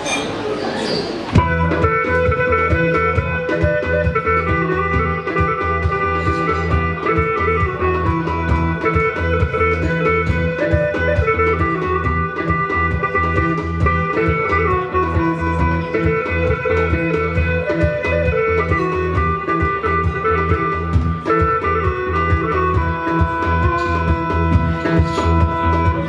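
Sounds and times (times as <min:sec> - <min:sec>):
plucked strings: 0:01.3 - 0:26.0
hand drum beat: 0:01.4 - 0:26.0
sustained melody line: 0:01.4 - 0:26.0.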